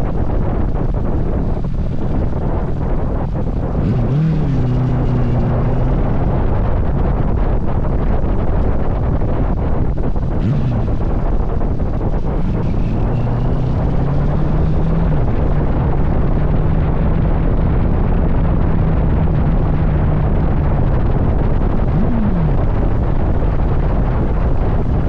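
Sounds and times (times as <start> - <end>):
motorcycle engine drone: 0.0 - 25.0
wind buffeting microphone: 0.0 - 25.0.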